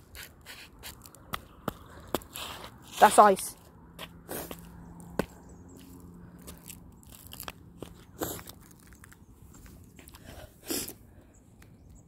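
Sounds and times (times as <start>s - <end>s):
ice crunching under shoes: 0.0s - 11.0s.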